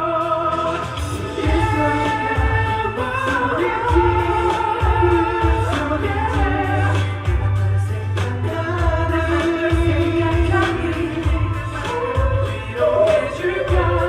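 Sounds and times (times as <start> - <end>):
backing track with heavy bass: 0.0 - 14.0
person singing ballad: 0.0 - 14.0.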